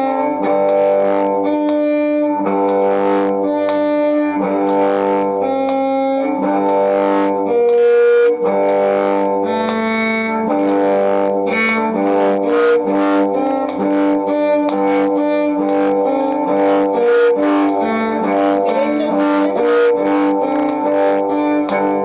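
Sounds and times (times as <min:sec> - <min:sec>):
accompaniment with steady beat: 0:00.0 - 0:22.0.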